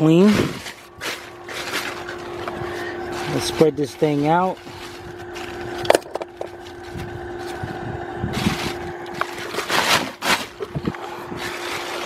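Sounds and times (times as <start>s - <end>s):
plastic bag rustling: 0.0s - 12.0s
steady hum: 0.0s - 12.0s.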